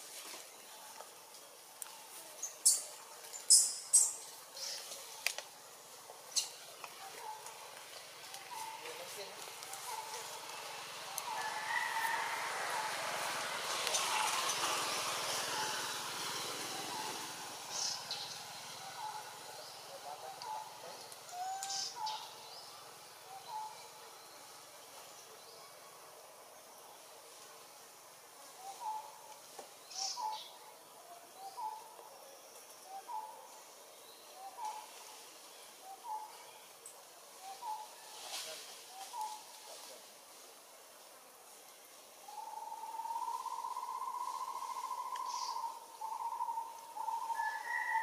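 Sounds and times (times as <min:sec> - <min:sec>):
steady hiss: 0:00.0 - 0:47.4.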